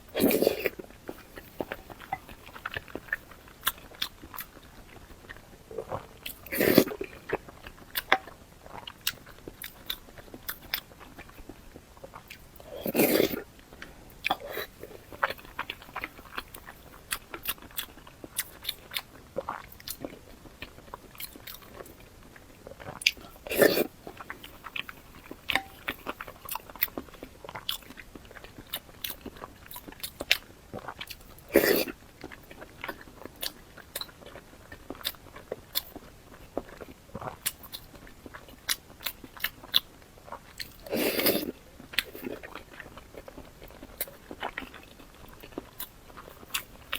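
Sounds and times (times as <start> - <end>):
close-up chewing: 0.0 - 46.9.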